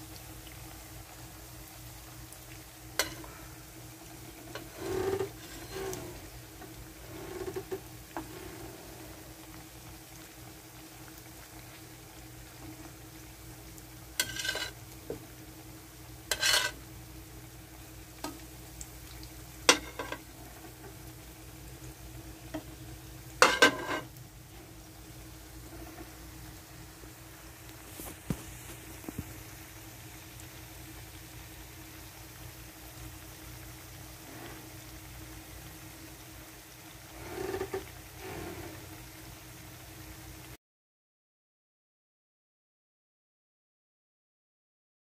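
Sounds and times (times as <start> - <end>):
food sizzling in hot oil: 0.0 - 40.6.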